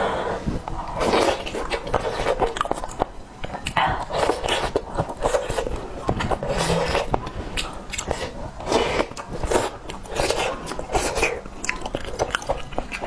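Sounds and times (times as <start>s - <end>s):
wet chewing and slurping: 0.0s - 13.0s.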